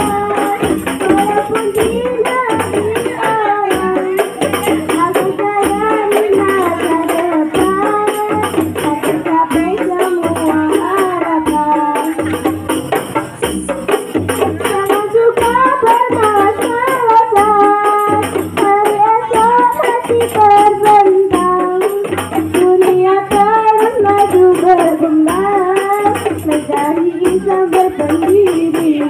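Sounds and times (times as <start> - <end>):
girl singing into microphone: 0.0 - 12.3, 14.6 - 29.0.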